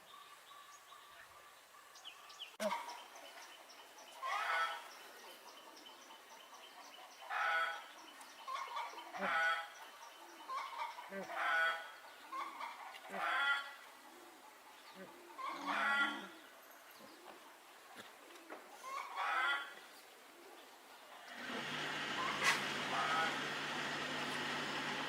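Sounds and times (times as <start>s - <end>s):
chickens clucking and squawking: 2.5s - 25.0s.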